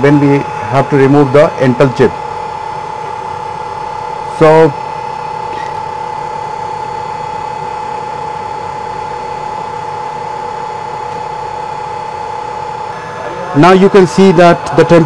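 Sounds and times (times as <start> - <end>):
blower fans hissing: 0.0 - 15.0
high whine: 0.0 - 15.0.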